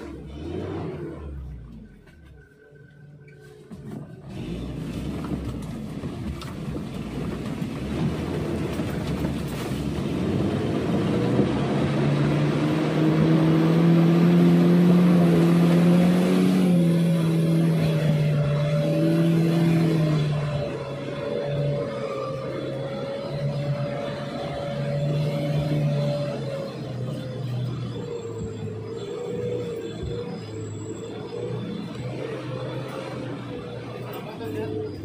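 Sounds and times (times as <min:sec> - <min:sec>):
car engine revving hard: 0:00.0 - 0:01.8, 0:04.3 - 0:06.0, 0:07.0 - 0:35.0.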